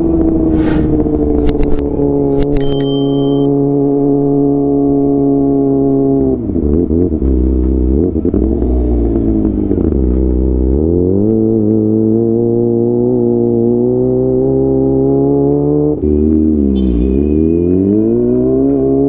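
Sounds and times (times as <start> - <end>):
motorcycle engine revving: 3.5 - 19.0.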